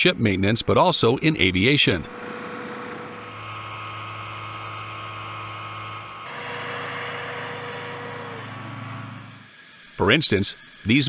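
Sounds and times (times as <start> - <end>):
truck engine humming and whining: 1.4 - 11.0.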